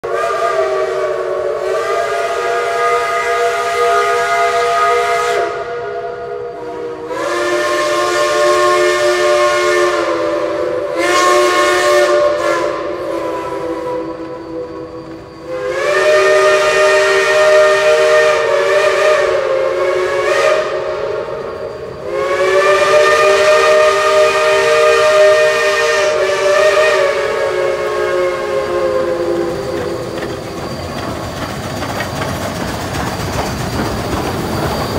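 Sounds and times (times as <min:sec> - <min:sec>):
steam locomotive whistles: 0:00.0 - 0:34.9.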